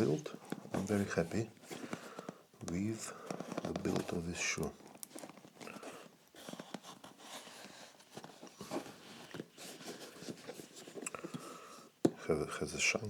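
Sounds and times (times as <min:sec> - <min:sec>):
shoe parts clicking and rustling: 0:00.0 - 0:12.3.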